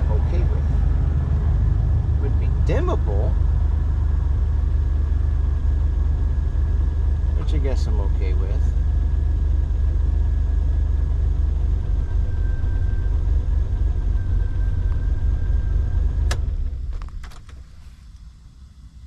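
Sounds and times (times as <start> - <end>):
car engine idling: 0.0 - 19.0
faint whine: 0.0 - 19.0.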